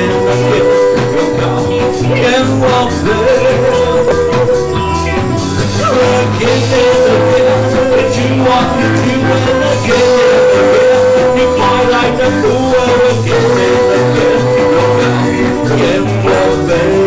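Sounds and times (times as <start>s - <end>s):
bass line: 0.0s - 17.0s
bending lead guitar note: 0.0s - 17.0s
drums: 0.0s - 17.0s.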